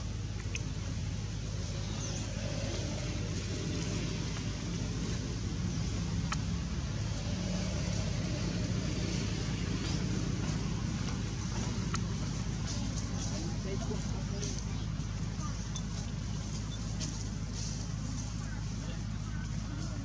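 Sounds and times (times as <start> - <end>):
low rumble of vehicle engines: 0.0 - 20.0.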